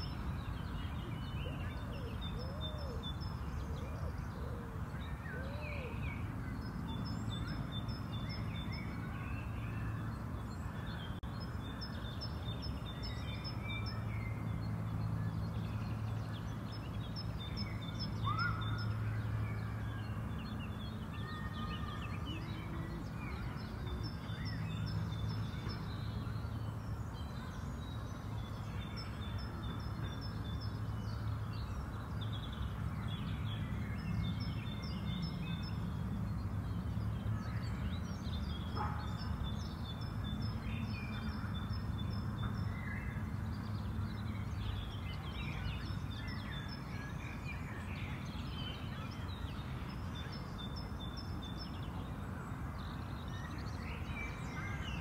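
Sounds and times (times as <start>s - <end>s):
small birds singing: 0.0s - 55.0s.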